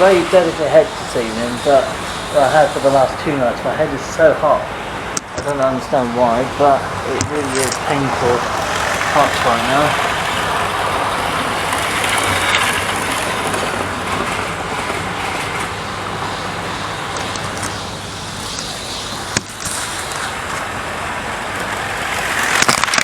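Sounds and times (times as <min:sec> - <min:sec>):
model train motors whirring: 0:00.0 - 0:23.0.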